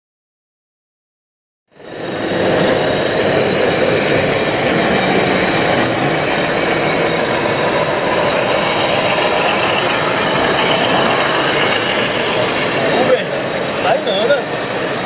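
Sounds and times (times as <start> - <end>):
model truck engine sounds: 1.7 - 15.0.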